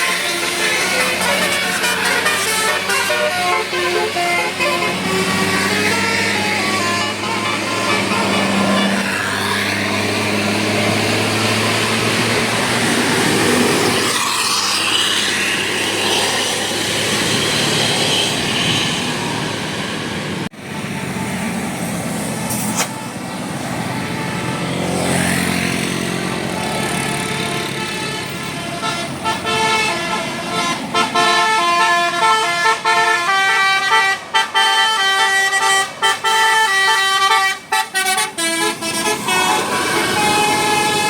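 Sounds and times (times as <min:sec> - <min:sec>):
diesel buses passing: 0:00.0 - 0:41.0.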